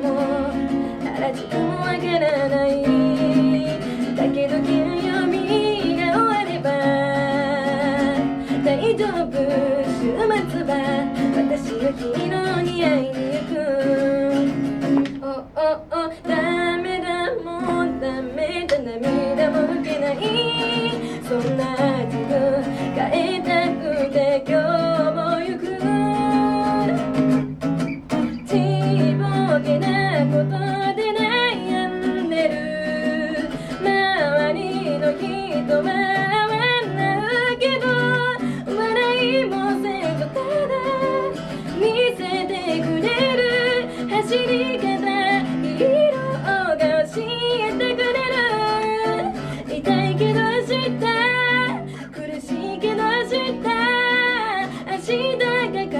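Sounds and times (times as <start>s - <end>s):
acoustic guitar strumming: 0.0s - 55.9s
woman singing pop song: 0.0s - 55.9s.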